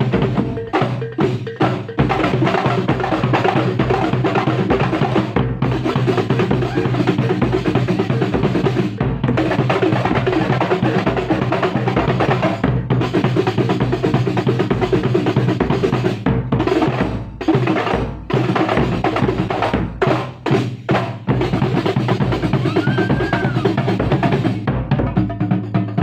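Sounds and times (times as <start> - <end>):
frame drums beating fast rhythm: 0.0 - 26.0.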